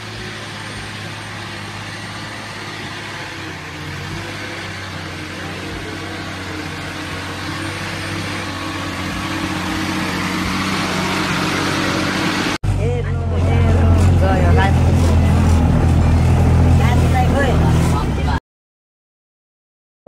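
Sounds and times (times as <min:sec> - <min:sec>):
bus engine running: 0:00.0 - 0:18.4.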